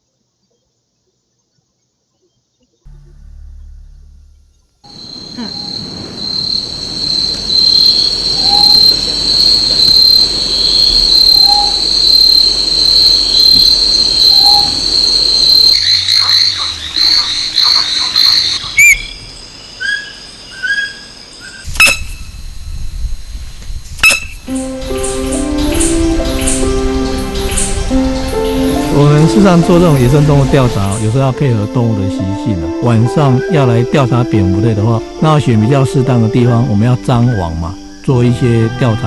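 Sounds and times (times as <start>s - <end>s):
insect chorus buzzing: 2.9s - 39.0s.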